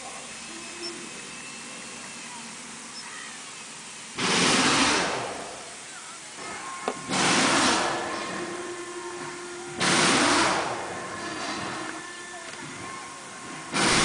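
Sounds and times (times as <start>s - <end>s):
shop background noise: 0.0s - 14.0s
compressed air hissing burst: 1.0s - 12.0s, 12.6s - 14.0s.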